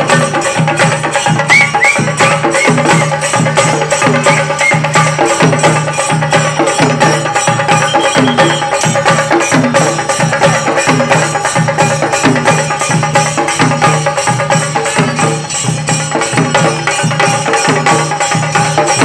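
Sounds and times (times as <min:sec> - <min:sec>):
group of drums beaten fast: 0:00.0 - 0:19.0.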